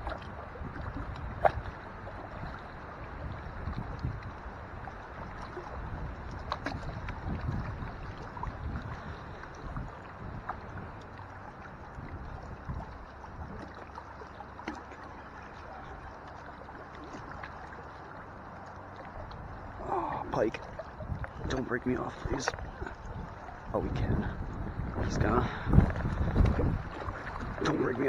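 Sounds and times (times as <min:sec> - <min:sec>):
wind rumbling on microphone: 0:00.0 - 0:13.8, 0:19.1 - 0:28.0
water lapping against boat: 0:00.0 - 0:28.0.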